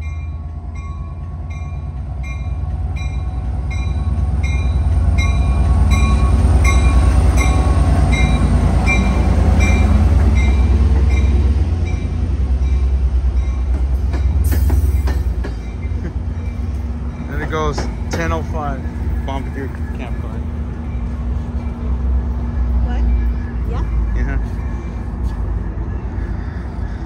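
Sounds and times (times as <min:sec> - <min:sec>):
train bell ringing: 0:00.0 - 0:26.2
diesel train rumbling: 0:00.0 - 0:27.0.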